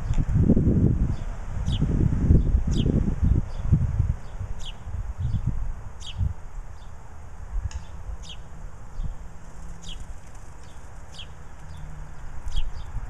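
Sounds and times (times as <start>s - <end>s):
low road traffic rumble: 0.0s - 13.0s
songbirds calling: 1.1s - 13.0s.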